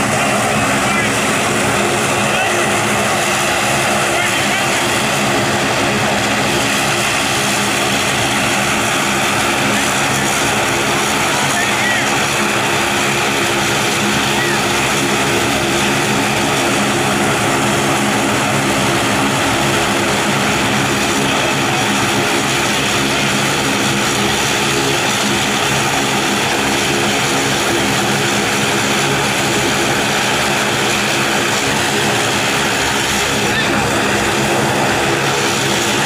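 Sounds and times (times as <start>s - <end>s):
turboprop engine running: 0.0s - 36.0s.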